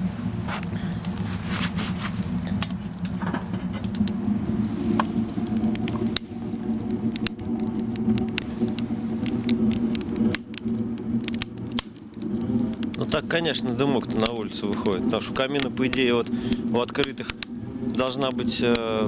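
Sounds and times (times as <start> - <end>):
firewood crackling and snapping: 0.0 - 19.0.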